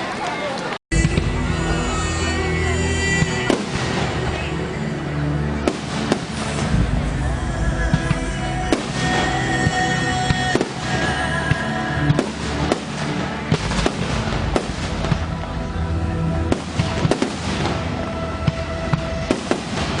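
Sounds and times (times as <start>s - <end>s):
fireworks bursting: 0.9s - 4.5s, 5.5s - 15.8s, 16.4s - 20.0s
music playing: 0.9s - 20.0s.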